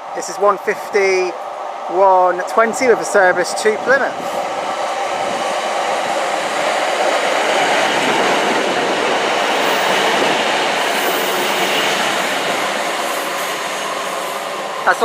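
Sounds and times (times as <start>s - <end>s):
diesel train engines: 0.0s - 15.0s
train wheels on track: 0.0s - 15.0s.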